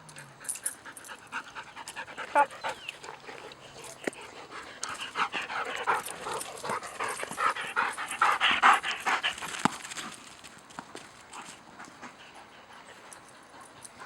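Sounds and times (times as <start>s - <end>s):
dog panting: 0.1s - 10.3s, 11.3s - 14.0s.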